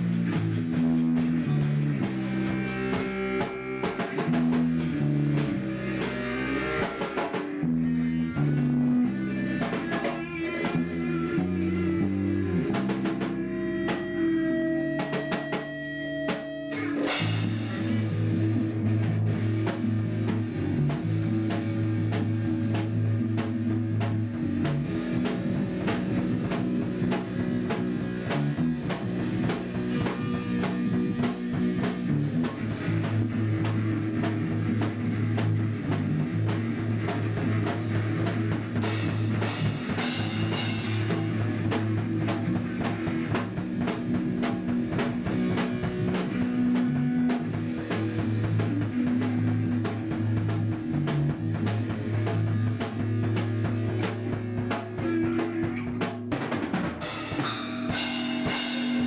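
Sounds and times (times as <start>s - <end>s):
drum beat: 0.0s - 7.8s, 9.5s - 11.0s, 12.6s - 59.0s
low bass notes: 0.0s - 59.0s
rock music: 0.0s - 59.0s.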